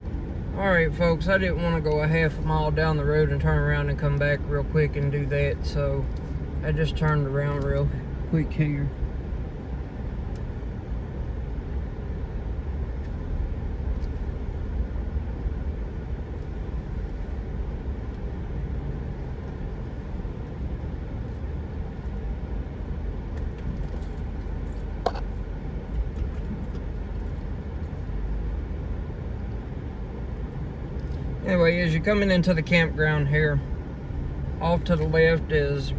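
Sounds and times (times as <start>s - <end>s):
vehicle engine and road noise: 0.0s - 35.9s.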